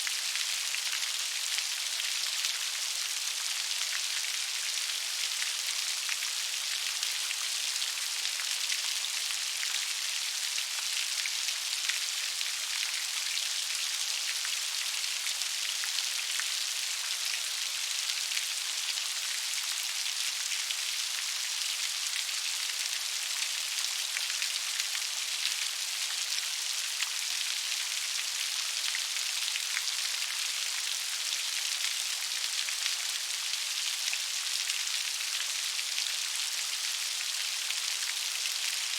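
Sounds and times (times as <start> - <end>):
gentle rain pattering: 0.0 - 38.9.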